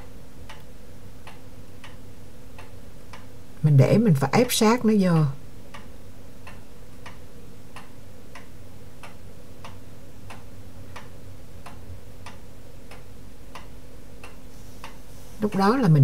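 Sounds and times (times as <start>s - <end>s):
low steady hum: 0.0s - 16.0s
steady ticking: 0.0s - 16.0s.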